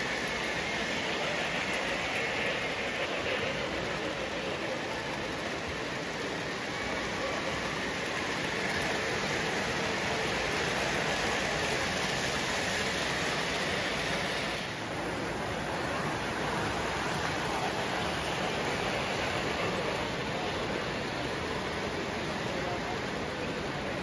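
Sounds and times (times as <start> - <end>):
model trains whirring on track: 0.0 - 24.0.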